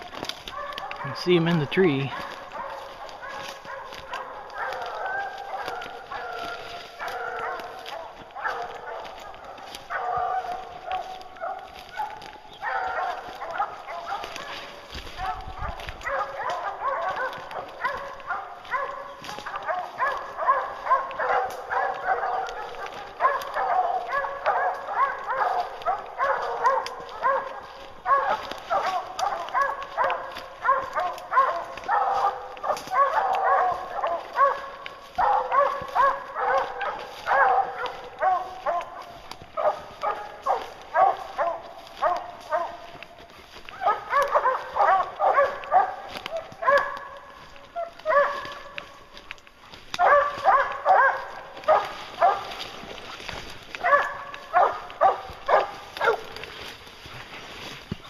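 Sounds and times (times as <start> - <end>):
hounds barking and baying: 0.0 - 58.0.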